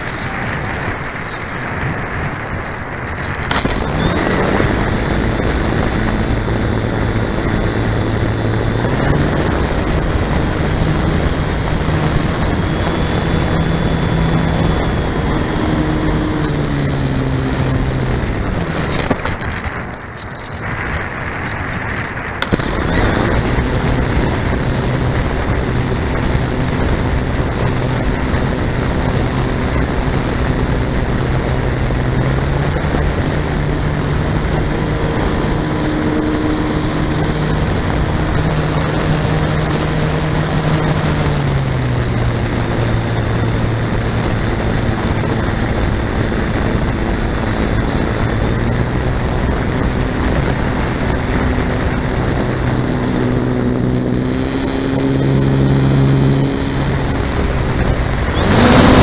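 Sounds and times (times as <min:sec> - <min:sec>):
wind rushing over microphone: 0:00.0 - 0:59.0
model airplane electric motor: 0:03.3 - 0:19.8, 0:22.4 - 0:59.0.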